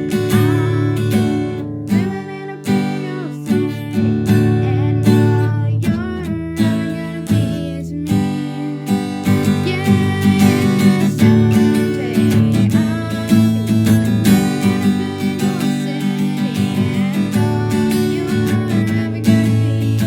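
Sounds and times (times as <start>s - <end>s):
strummed acoustic guitar music: 0.0s - 20.0s.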